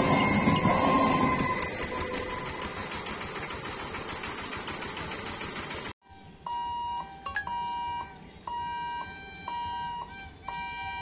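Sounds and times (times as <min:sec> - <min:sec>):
low train rumble: 0:00.0 - 0:11.0
train whine: 0:00.0 - 0:11.0.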